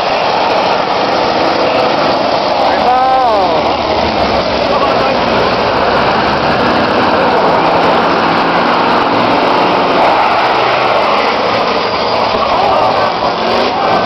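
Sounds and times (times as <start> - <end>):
race car engines din: 0.0 - 14.0.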